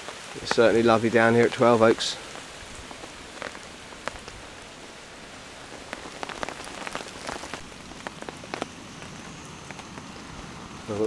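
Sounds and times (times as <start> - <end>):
rain hissing on a tarp: 0.0 - 11.0
raindrops hitting tarp: 0.0 - 11.0.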